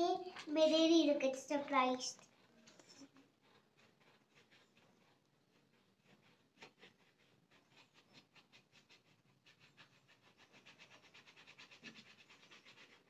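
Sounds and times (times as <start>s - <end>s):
pen scratching on paper: 2.2s - 13.0s.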